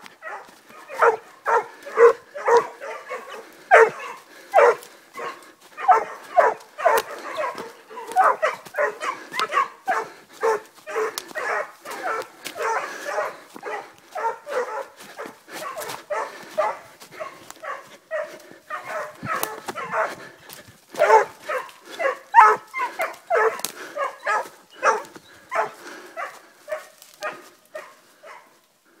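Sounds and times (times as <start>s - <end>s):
hounds baying: 0.0s - 29.0s.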